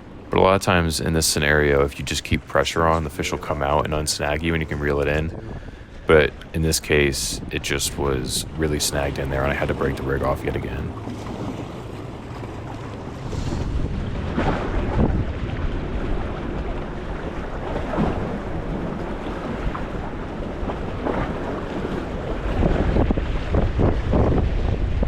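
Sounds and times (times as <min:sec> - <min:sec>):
wind buffeting microphone: 0:00.0 - 0:25.0
waves washing against rocks: 0:01.1 - 0:25.0.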